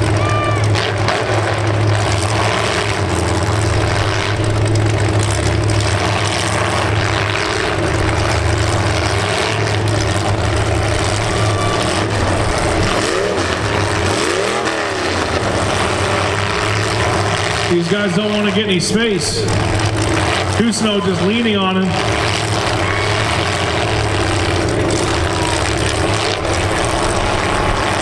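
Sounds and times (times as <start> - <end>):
car engines droning: 0.0 - 28.0
engine revving: 0.0 - 28.0.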